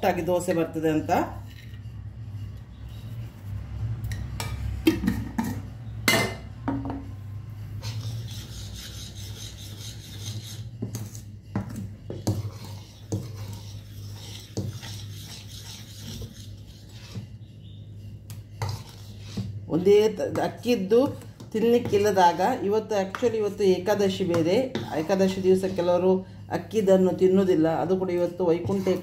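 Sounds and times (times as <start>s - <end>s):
spoon scraping batter in pot: 0.1s - 4.7s, 7.5s - 29.0s.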